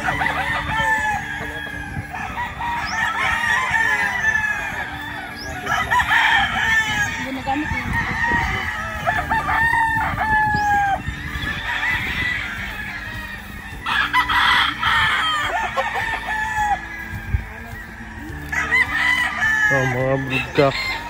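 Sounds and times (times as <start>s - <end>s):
roosters crowing: 0.0s - 21.0s.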